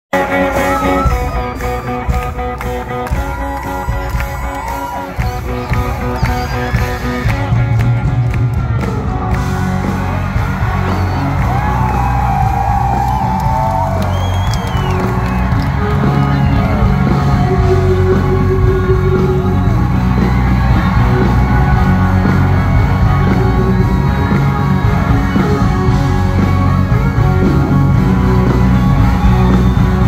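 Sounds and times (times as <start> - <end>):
loud music through sound system: 0.1 - 30.0
crowd cheering and whooping: 0.2 - 30.0.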